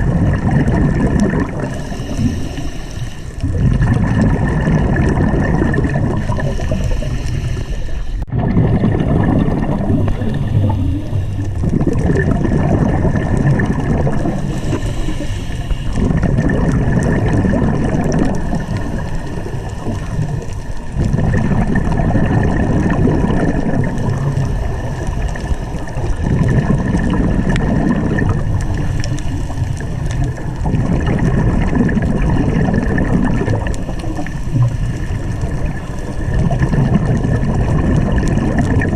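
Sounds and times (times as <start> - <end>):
regulator bubbles underwater: 0.0 - 38.9.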